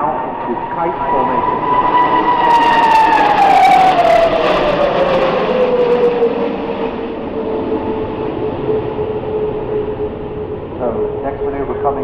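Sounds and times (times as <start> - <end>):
jet aircraft whine: 0.0 - 12.0
rushing jet noise: 0.0 - 12.0.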